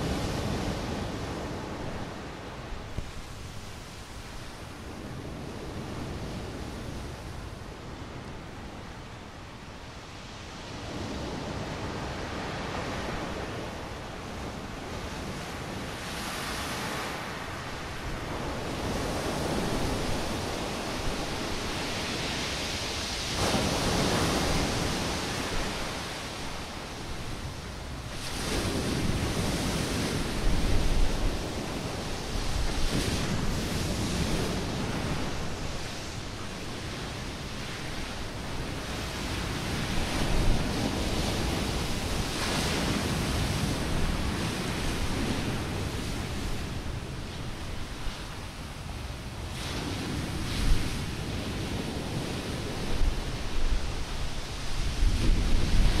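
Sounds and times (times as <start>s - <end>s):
waves breaking on shore: 0.0s - 56.0s
wind buffeting microphone: 0.0s - 56.0s.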